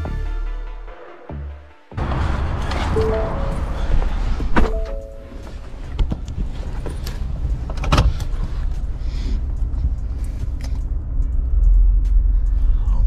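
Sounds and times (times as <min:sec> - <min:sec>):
pickup truck engine: 0:02.0 - 0:12.8
road rumble: 0:02.0 - 0:13.0.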